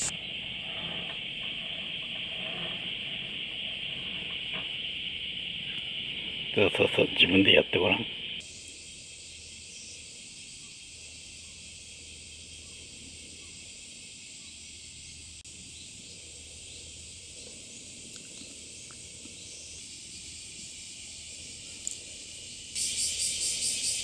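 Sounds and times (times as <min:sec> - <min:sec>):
insect chorus chirring: 0:00.0 - 0:24.0.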